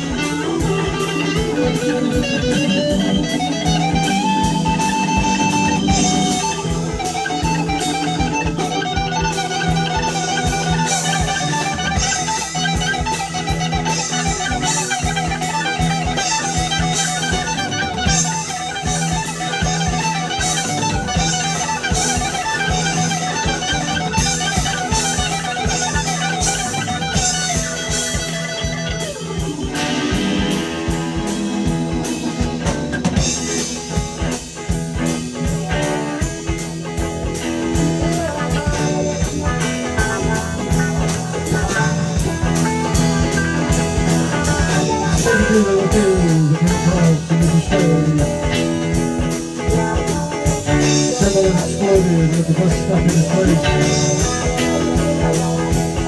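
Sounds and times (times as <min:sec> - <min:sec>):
electric guitars: 0:00.0 - 0:56.0
keyboard: 0:00.0 - 0:56.0
steady drum beat: 0:00.0 - 0:56.0.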